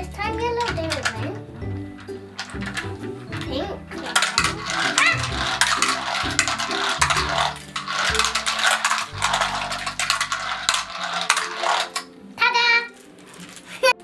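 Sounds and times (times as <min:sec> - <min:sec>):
low background music: 0:00.0 - 0:14.0
toy cars rattling down ramps: 0:00.5 - 0:12.1, 0:12.9 - 0:13.9.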